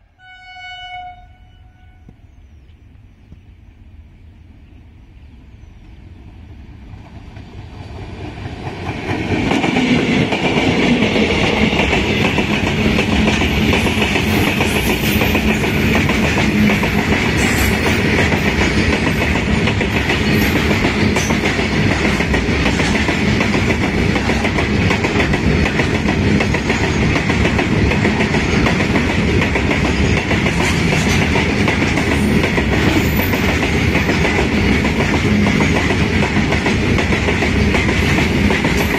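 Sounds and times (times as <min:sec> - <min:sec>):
freight train wheels rumbling: 0:02.0 - 0:38.9.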